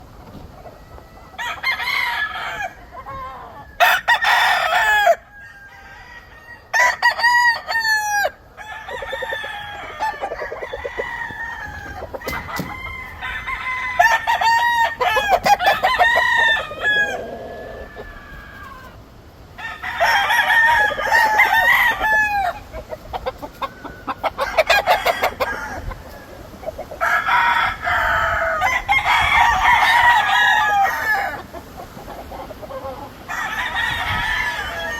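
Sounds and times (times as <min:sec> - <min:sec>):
roosters crowing: 0:00.0 - 0:34.9.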